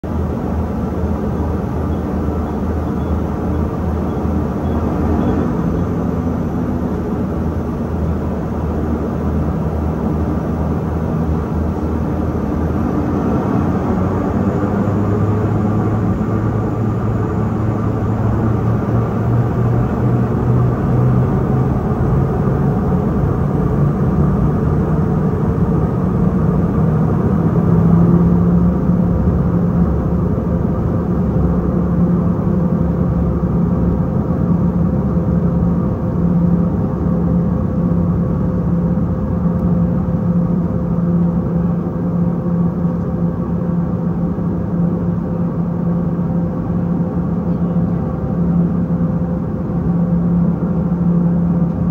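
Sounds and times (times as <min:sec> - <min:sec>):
jet engines droning: 0:00.0 - 0:51.9
rolling rumble of plane taxiing: 0:00.0 - 0:51.9.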